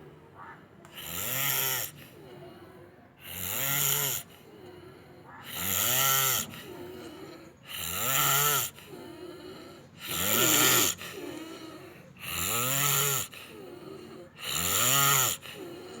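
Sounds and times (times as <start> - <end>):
soft breathing: 0.0 - 16.0
person snoring loudly: 0.9 - 2.5, 3.2 - 4.8, 5.4 - 16.0.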